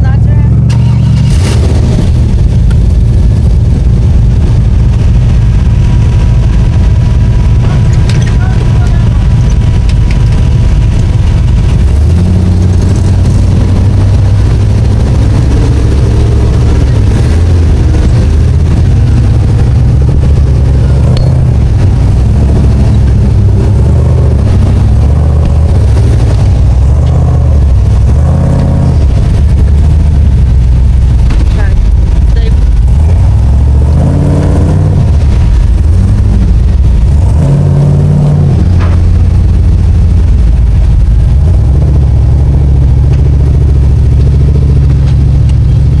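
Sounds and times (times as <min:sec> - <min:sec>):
vehicle engine revving: 0:00.0 - 0:46.0.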